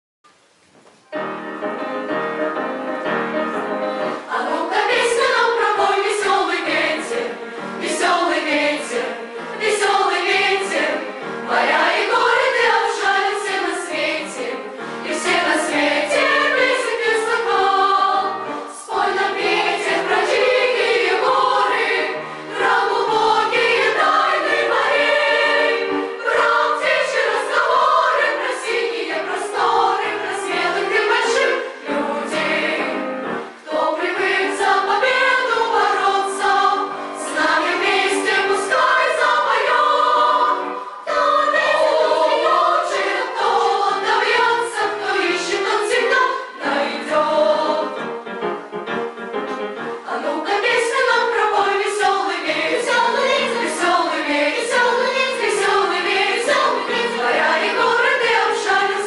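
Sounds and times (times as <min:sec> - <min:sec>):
instrumental accompaniment: 0:00.4 - 0:59.0
choir singing: 0:01.2 - 0:59.0.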